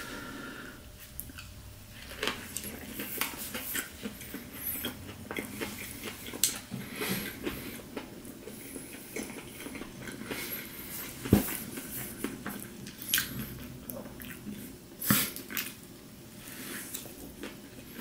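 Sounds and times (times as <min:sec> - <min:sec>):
person chewing crispy food: 0:01.1 - 0:15.8.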